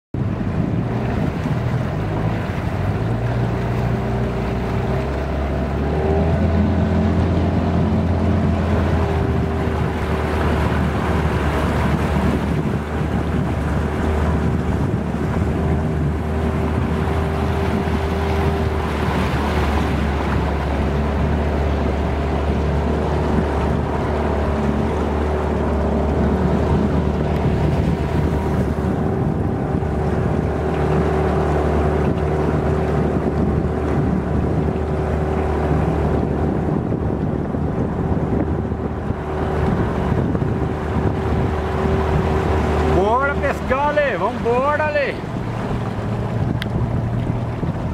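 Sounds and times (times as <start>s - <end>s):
motorboat engine running: 0.1s - 47.9s
wind buffeting microphone: 0.2s - 47.9s.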